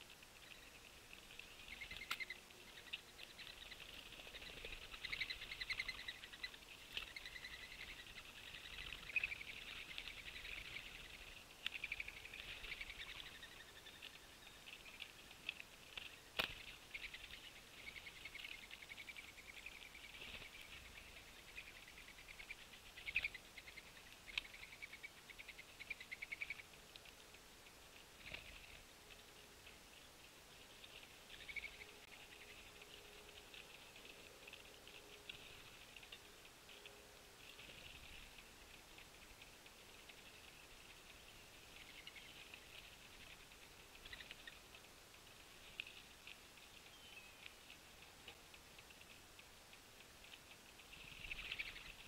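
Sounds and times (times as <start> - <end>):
small birds chipping and chattering: 0.0 - 52.0.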